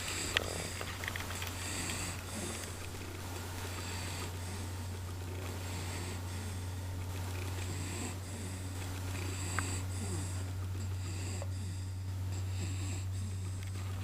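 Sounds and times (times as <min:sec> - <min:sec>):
steady low hum: 0:00.0 - 0:14.0
wheezy snoring: 0:00.0 - 0:14.0.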